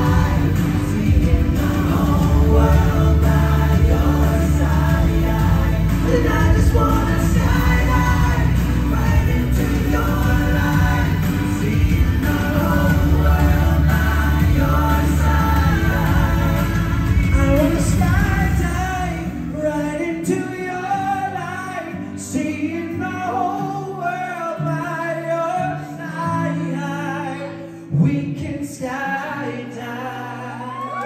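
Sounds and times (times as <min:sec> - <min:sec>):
amplified backing music: 0:00.0 - 0:30.0
men singing into microphones: 0:00.0 - 0:31.0.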